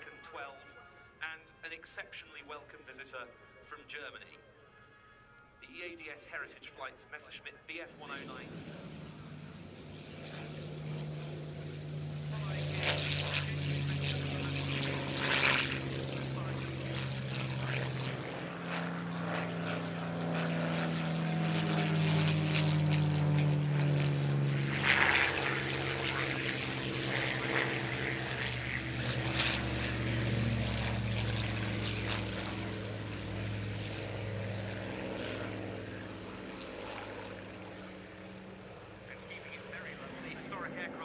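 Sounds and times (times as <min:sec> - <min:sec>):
propeller planes droning past: 0:00.0 - 0:41.0.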